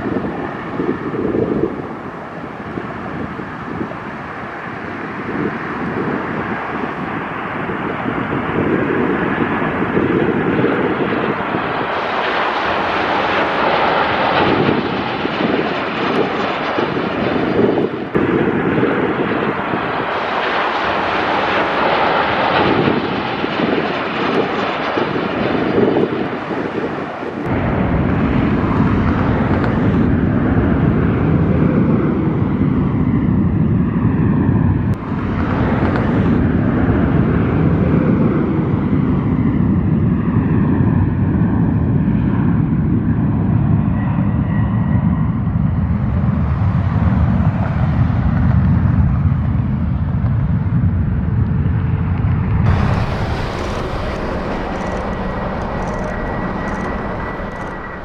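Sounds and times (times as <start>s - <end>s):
deep rumble of approaching plane: 0.0s - 58.0s
jet airliner engines rumbling: 0.0s - 58.0s.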